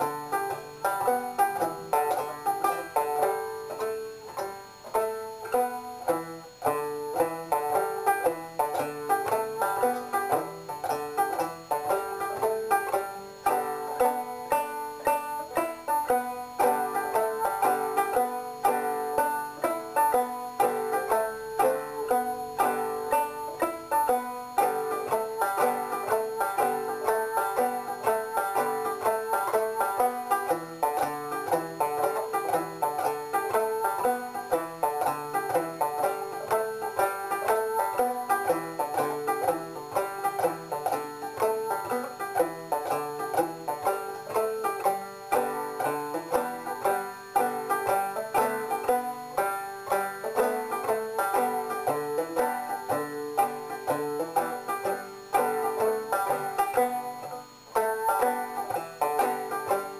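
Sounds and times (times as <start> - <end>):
fast-picked banjo music: 0.0 - 59.9.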